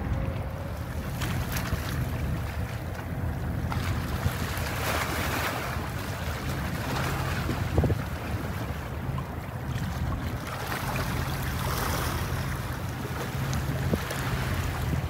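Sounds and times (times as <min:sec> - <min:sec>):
boat engine rumbling: 0:00.0 - 0:15.0
wind buffeting microphone: 0:00.0 - 0:15.0.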